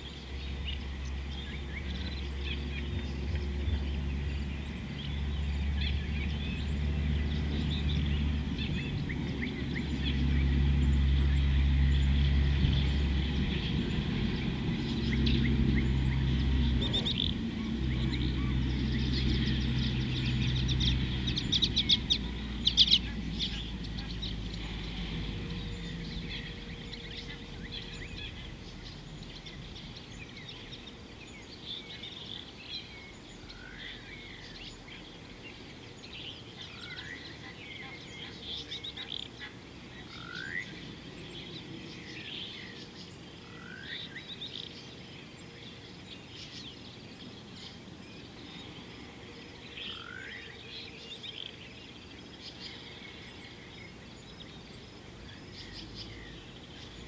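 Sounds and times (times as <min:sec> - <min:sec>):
birds chirping and calling: 0:00.0 - 0:57.0
low steady hum: 0:00.0 - 0:57.0.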